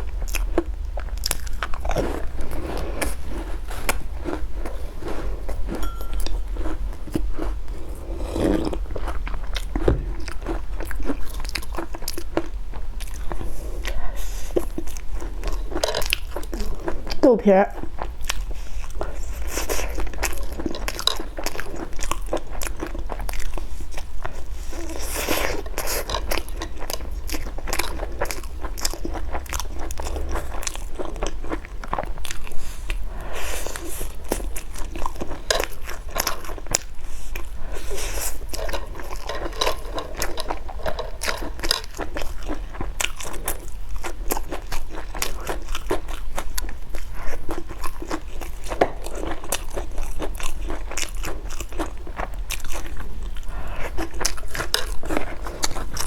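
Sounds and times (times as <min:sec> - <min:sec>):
crisp chewing crunches: 0:00.0 - 0:17.2, 0:17.8 - 0:56.0.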